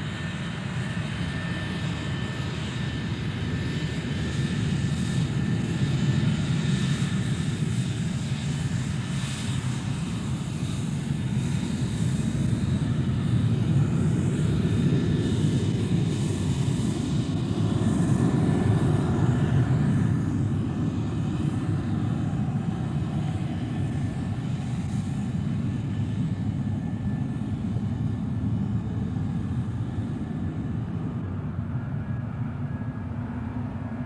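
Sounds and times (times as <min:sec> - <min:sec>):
airplane engines rumbling: 0:00.0 - 0:34.0.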